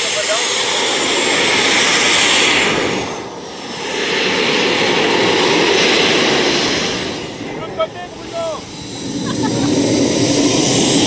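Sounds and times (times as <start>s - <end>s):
model jet turbine whining: 0.0s - 11.0s.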